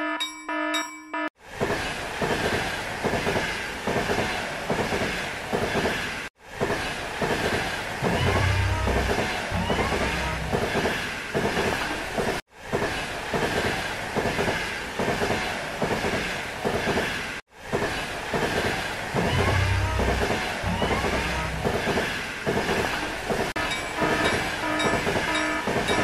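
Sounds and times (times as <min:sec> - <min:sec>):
train wheels clacking over rail joints: 0:01.5 - 0:26.0.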